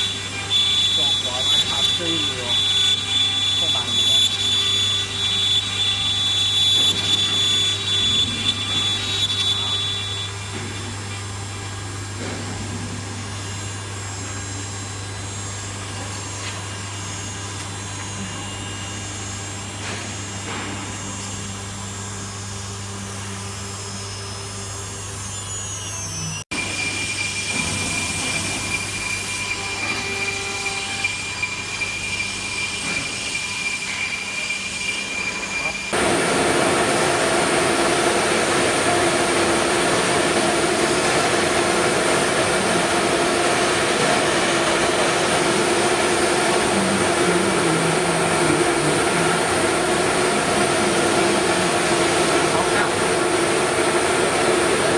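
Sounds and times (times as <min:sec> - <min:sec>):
low machine hum: 0:00.0 - 0:34.6, 0:35.2 - 0:54.9
router spindle whining: 0:00.0 - 0:54.9.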